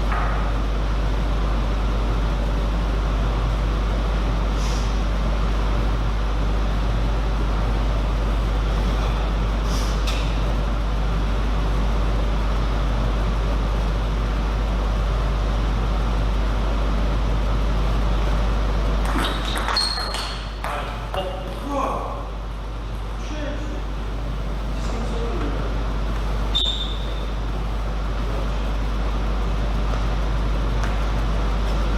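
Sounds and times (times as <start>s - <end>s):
background hiss and hum: 0.0s - 31.9s.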